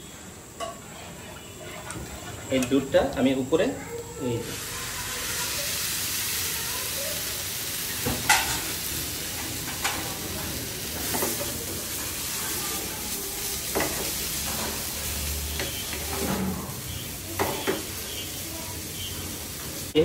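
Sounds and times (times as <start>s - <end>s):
steady hiss: 2.4s - 20.0s.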